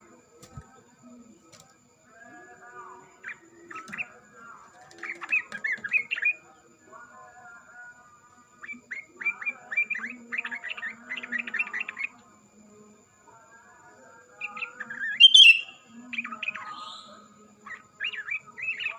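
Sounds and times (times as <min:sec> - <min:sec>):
bulbuls singing: 0:00.0 - 0:12.7, 0:13.3 - 0:18.9.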